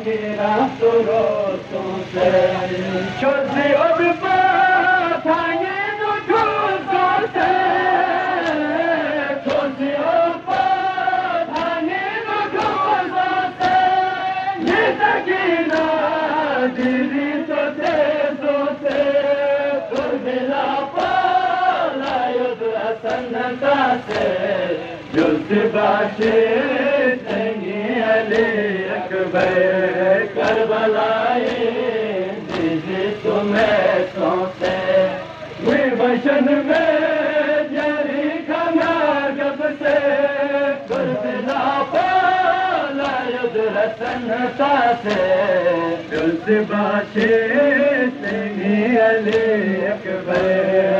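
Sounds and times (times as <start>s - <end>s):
men chanting a lament over loudspeaker: 0.0s - 50.9s
rhythmic chest-beating: 0.0s - 50.9s.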